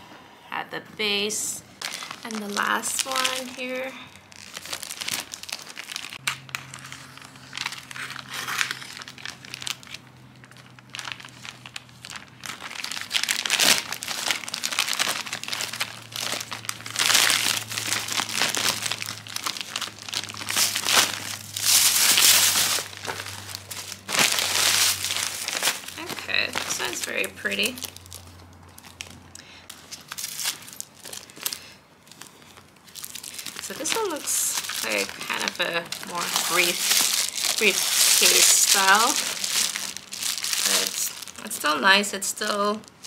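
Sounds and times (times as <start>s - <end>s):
plastic bag crinkling: 1.8s - 43.0s.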